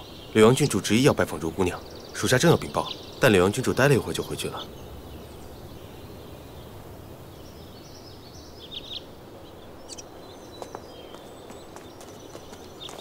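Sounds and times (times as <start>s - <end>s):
faint bird chirps: 0.0s - 13.0s
outdoor background ambience: 0.0s - 13.0s.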